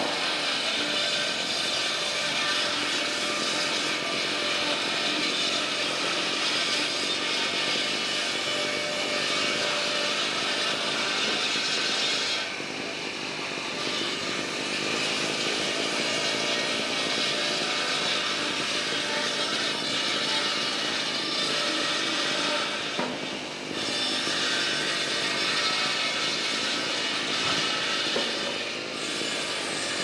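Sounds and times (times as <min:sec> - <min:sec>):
mill machinery running: 0:00.0 - 0:30.0.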